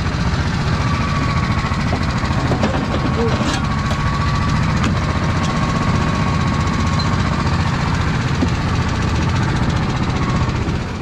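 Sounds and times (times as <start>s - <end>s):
go-kart engines idling: 0.0s - 11.0s.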